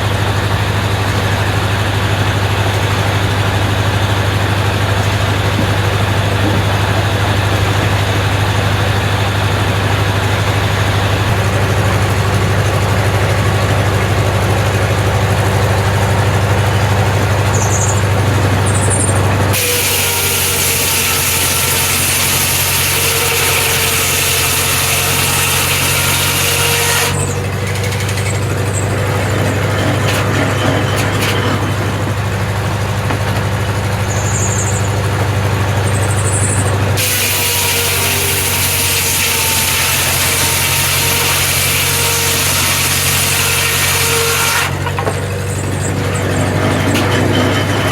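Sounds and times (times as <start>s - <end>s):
saw blade cutting log: 0.0s - 47.9s
sawmill engine hum: 0.0s - 47.9s.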